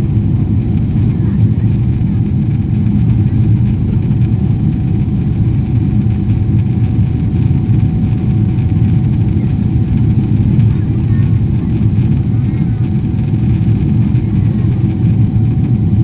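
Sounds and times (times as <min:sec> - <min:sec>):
airplane cabin rumble: 0:00.0 - 0:16.0
faint steady whine: 0:00.0 - 0:16.0.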